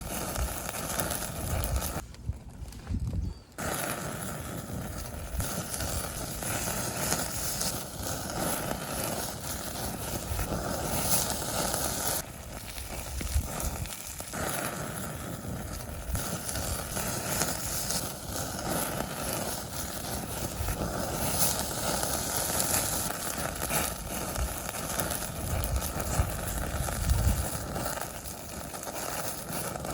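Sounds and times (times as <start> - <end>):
meat sizzling on a grill: 0.0 - 2.0, 3.6 - 29.9
fire crackling: 0.0 - 29.9.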